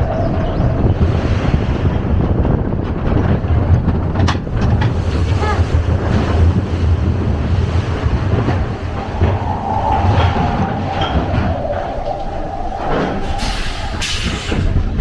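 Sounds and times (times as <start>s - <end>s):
roller coaster rumbling on track: 0.0s - 15.0s
wind on microphone: 0.0s - 15.0s.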